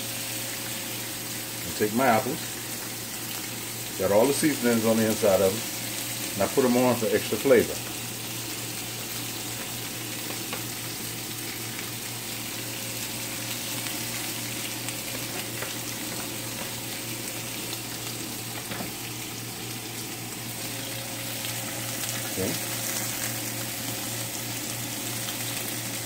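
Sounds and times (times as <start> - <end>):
fish sizzling in a grill pan: 0.0 - 26.0.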